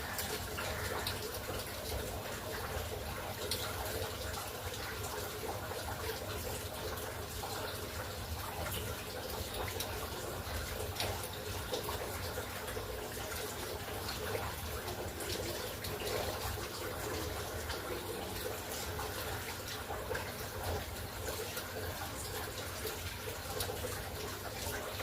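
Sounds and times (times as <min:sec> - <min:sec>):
running water splashing: 0:00.0 - 0:25.0.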